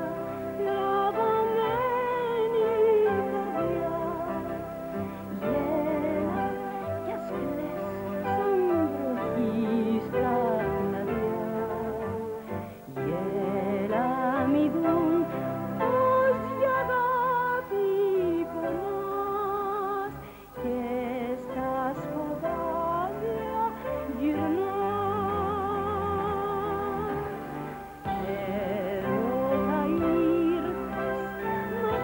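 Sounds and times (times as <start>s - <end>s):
instrumental accompaniment: 0.0s - 32.0s
woman singing with vibrato: 0.0s - 32.0s.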